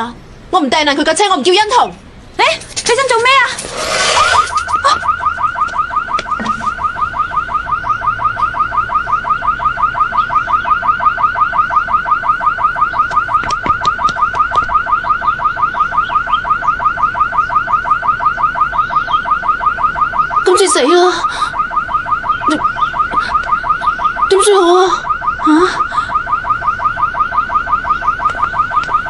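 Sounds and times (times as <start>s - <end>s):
car alarm whooping: 2.9s - 29.0s.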